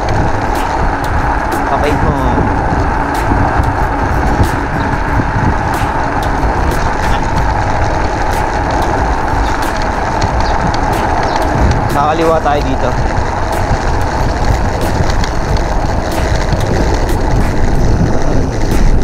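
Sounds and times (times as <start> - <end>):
electric scooter road noise: 0.0 - 19.0
steady hum: 0.0 - 19.0
wind rushing over microphone: 0.0 - 19.0.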